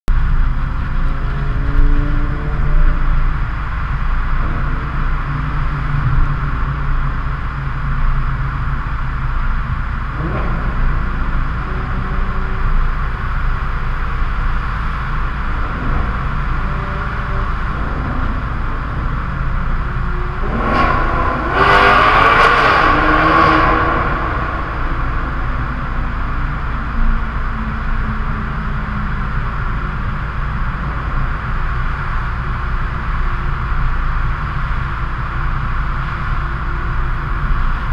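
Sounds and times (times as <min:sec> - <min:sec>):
low road rumble: 0:00.0 - 0:37.9
car exhaust accelerating: 0:00.1 - 0:37.9.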